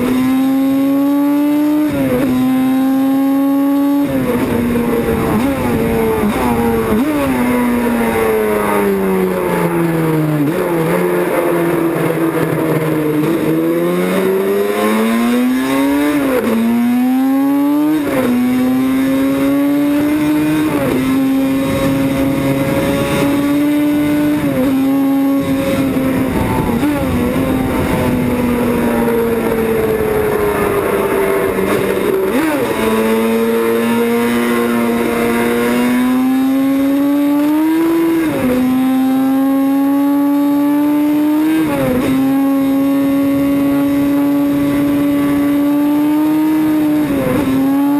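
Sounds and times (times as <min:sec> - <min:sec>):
racing motorcycle engine revving: 0:00.0 - 0:47.9.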